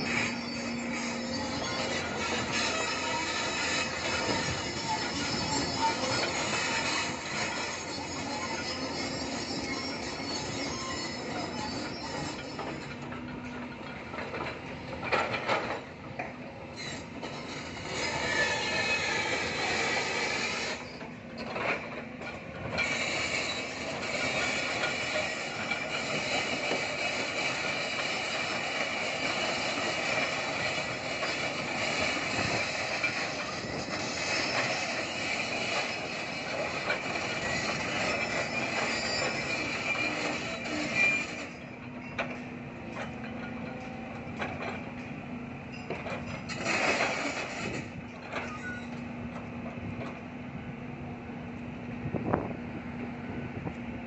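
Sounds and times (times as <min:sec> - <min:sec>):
metallic squealing and clanking: 0:00.0 - 0:16.0, 0:16.6 - 0:49.1
diesel engines running: 0:00.0 - 0:54.0.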